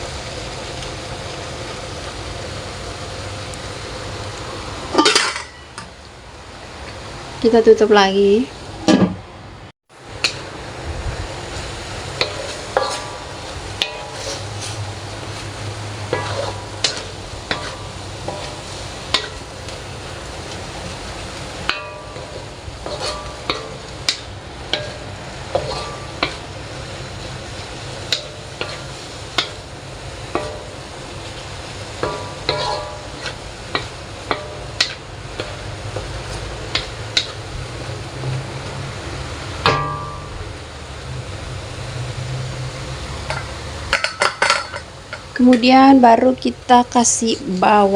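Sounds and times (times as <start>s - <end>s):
oil popping and crackling: 0.0s - 6.2s, 9.9s - 45.8s
noodles sizzling in a pan: 0.0s - 8.6s, 9.9s - 47.9s.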